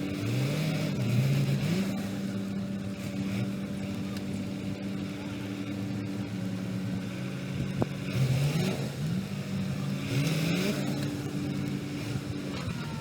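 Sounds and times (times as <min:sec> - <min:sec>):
heavy diesel engine revving: 0:00.0 - 0:13.0.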